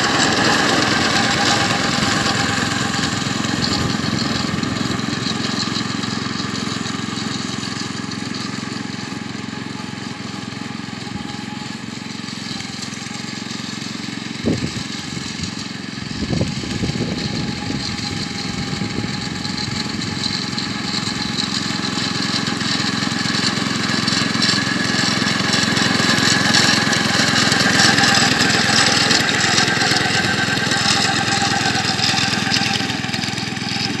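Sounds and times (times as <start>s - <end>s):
petrol mower engine running: 0.0s - 34.0s.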